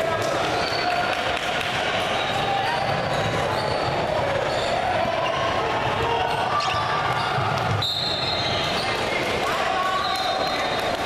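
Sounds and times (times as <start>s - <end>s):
gym hall din: 0.0s - 11.0s.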